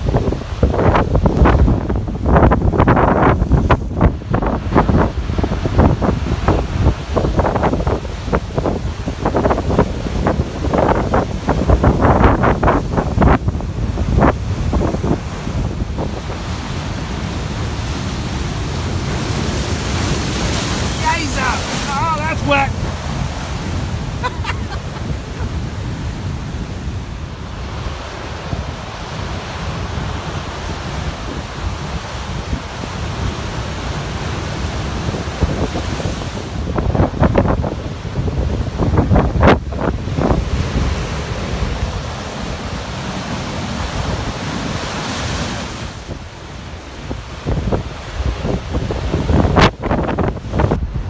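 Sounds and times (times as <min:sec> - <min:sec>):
storm surf breaking on rocks: 0:00.0 - 0:51.0
wind buffeting microphone: 0:00.0 - 0:51.0.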